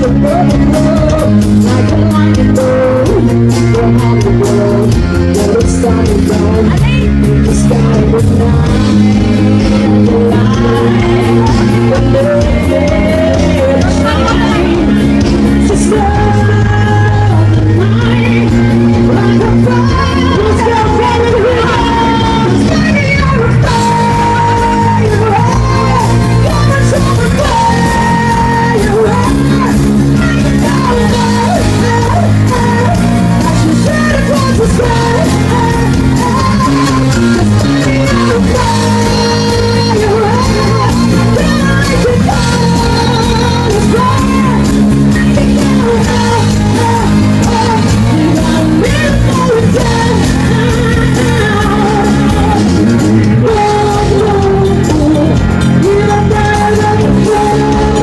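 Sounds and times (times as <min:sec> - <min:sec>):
person singing: 0:00.0 - 0:58.0.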